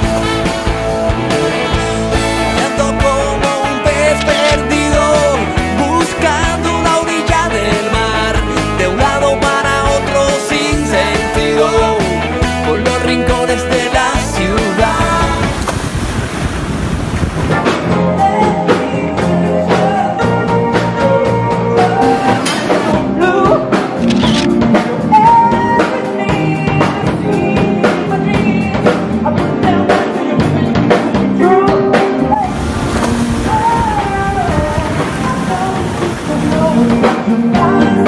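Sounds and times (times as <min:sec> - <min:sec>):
background music with drums: 0:00.0 - 0:15.6, 0:17.5 - 0:38.0.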